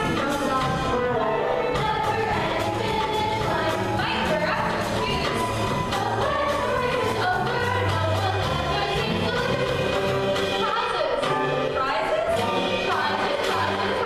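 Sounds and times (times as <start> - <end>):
chorus of voices singing: 0.0 - 14.0
instrumental music with beat: 0.0 - 14.0.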